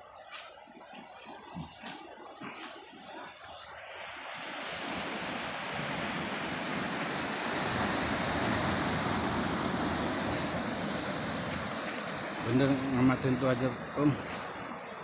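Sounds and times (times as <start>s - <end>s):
ocean waves breaking: 1.5s - 15.0s.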